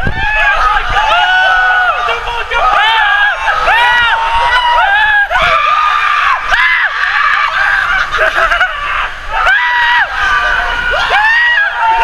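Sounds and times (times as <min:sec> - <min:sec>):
people screaming: 0:00.0 - 0:12.0.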